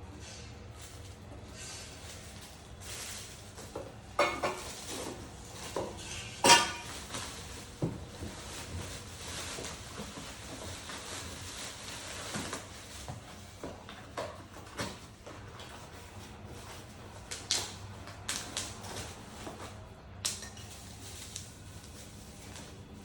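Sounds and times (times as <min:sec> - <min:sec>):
packaging rustling: 0:00.7 - 0:23.0.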